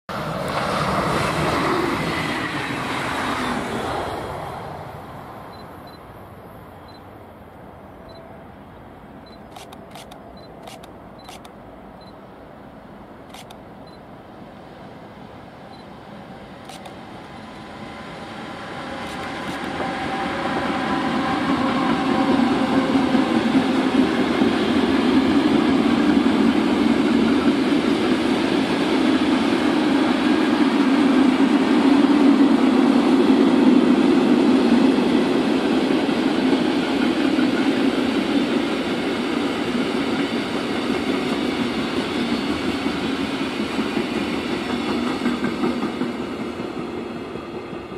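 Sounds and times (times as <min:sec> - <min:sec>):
electric train passing: 0:00.1 - 0:47.9
freight train wheels rumbling: 0:07.6 - 0:47.9.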